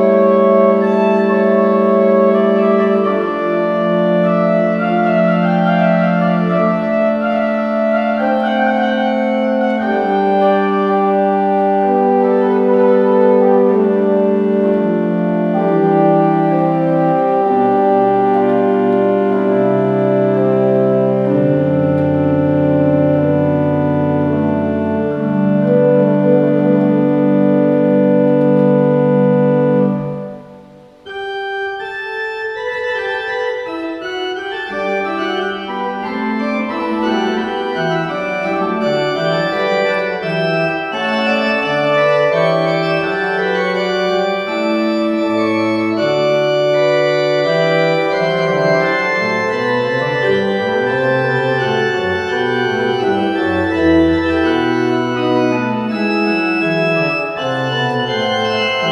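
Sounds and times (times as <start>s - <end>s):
organ music: 0.0s - 58.9s.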